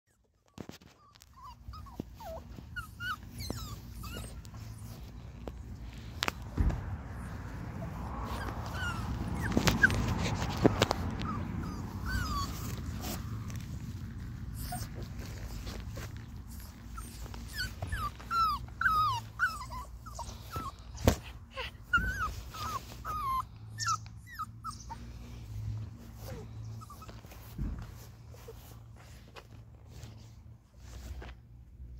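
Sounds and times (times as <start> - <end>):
puppy whimpering and whining: 0.1 - 5.7, 7.1 - 30.2.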